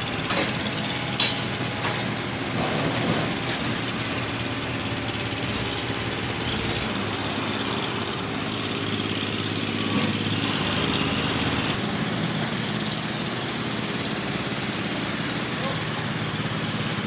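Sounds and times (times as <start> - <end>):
diesel machinery engines running: 0.0 - 17.0.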